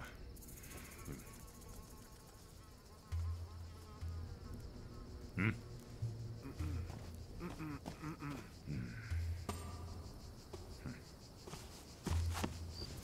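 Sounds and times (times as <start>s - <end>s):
flies buzzing: 0.0s - 13.0s.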